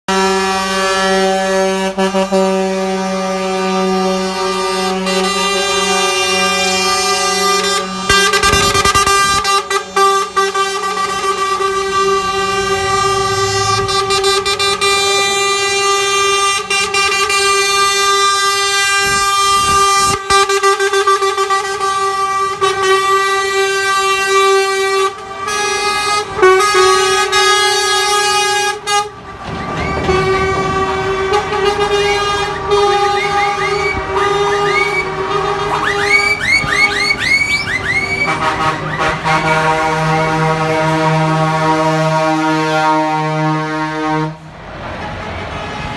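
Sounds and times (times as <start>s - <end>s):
truck air horns blowing: 0.1s - 45.9s.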